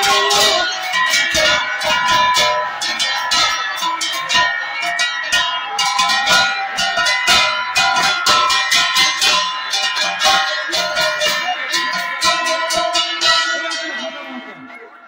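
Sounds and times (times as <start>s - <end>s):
hand-held gong ringing: 0.0s - 14.4s
cymbals clashing: 0.0s - 14.7s.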